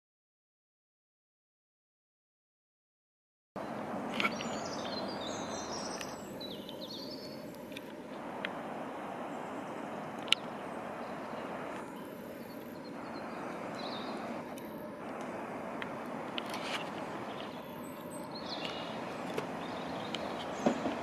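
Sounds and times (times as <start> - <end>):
birds chirping: 3.6 - 21.0.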